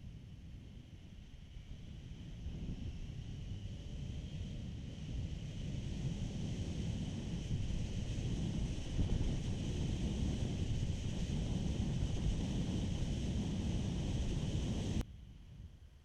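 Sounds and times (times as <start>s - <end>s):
wind buffeting microphone: 2.1s - 15.0s.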